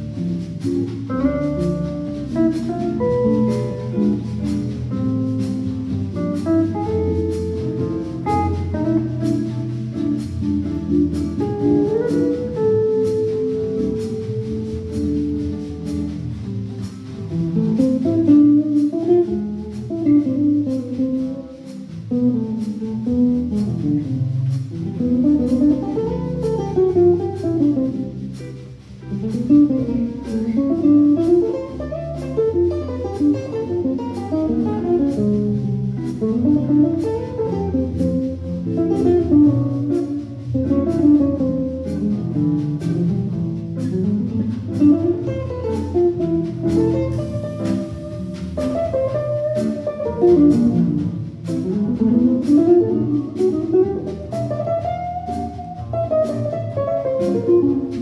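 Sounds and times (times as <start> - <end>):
double bass: 0.0 - 58.0
drum kit with cymbal beat: 0.0 - 58.0
guitars playing jazz: 0.0 - 58.0.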